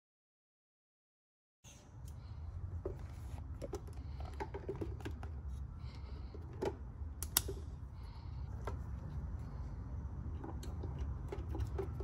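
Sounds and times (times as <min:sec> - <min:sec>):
low steady hum: 0:01.7 - 0:12.0.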